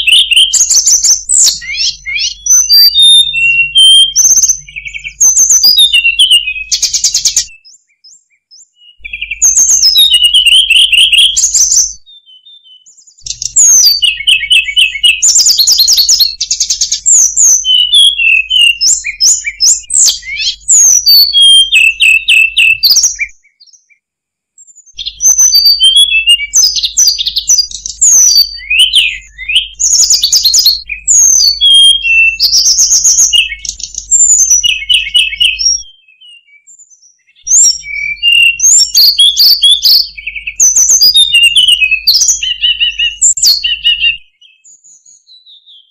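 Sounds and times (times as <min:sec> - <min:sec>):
bird song whistles and trills: 0:00.0 - 0:45.9.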